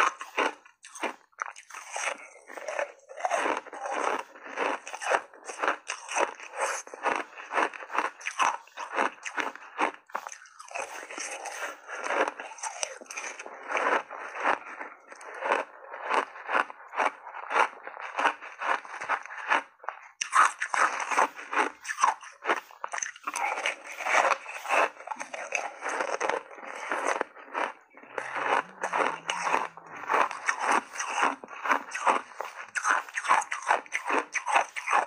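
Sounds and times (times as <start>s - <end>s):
person crunching ice: 0.0s - 35.0s.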